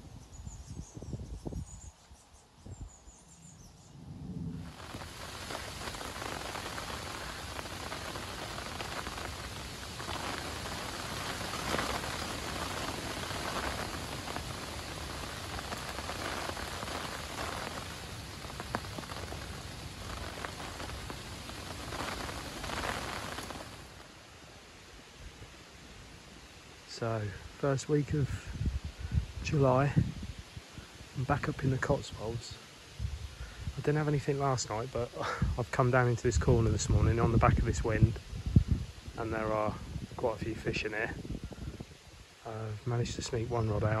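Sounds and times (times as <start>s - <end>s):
heavy rain on water and foliage: 4.6s - 44.0s.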